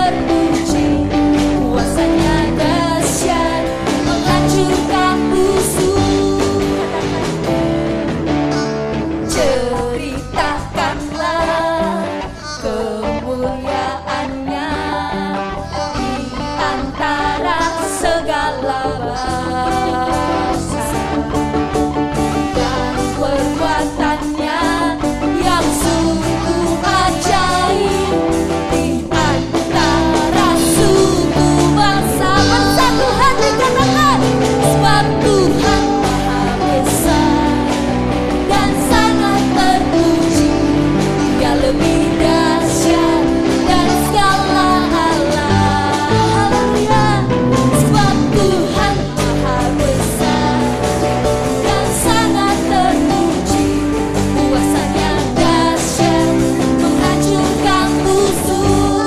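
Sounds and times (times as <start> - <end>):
voices singing: 0.0 - 7.5, 9.3 - 21.2, 22.4 - 59.0
worship band playing: 0.0 - 59.0.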